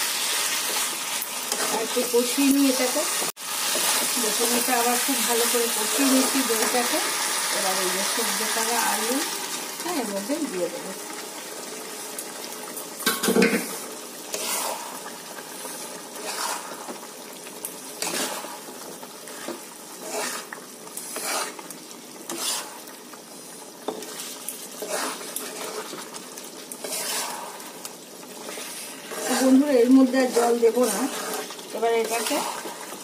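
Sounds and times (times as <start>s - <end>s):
spatula scraping a wok: 0.0s - 9.3s, 13.1s - 33.0s
food sizzling: 0.0s - 33.0s.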